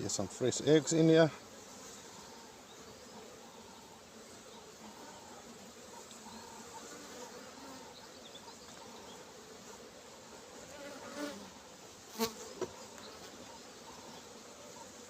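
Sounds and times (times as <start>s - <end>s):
bee buzzing close by: 0.0s - 15.0s
honeybees humming: 0.0s - 15.0s.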